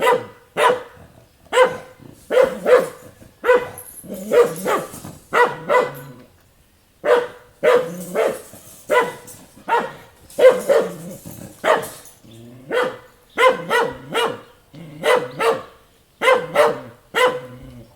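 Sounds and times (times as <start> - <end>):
dog barking: 0.0 - 6.2, 7.0 - 17.6.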